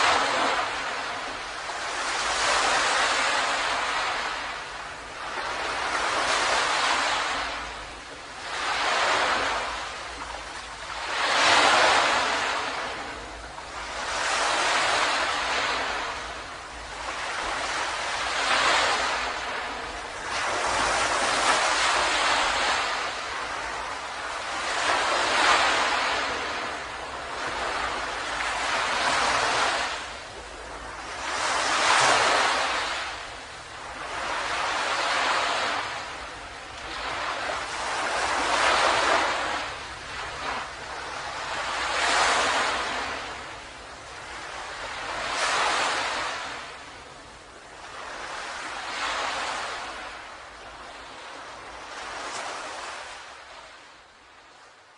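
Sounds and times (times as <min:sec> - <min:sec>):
ocean waves breaking on beach: 0:00.0 - 0:54.9.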